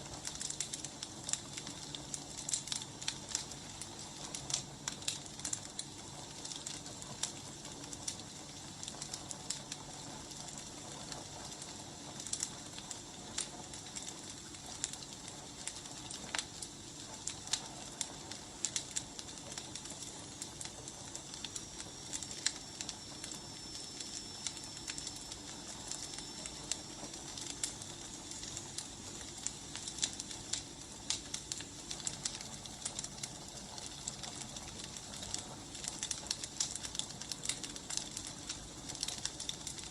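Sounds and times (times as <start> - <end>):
firewood burning and crackling: 0.0 - 39.9.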